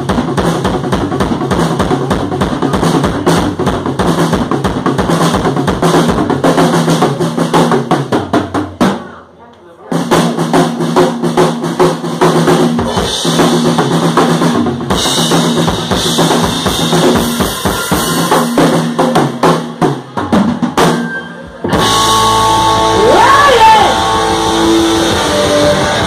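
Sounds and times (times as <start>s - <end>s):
drum solo: 0.0s - 9.3s, 9.9s - 26.0s.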